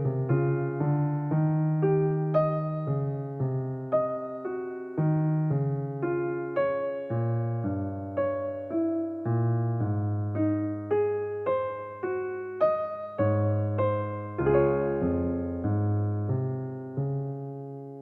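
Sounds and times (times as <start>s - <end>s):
solo electric piano music: 0.0s - 18.0s.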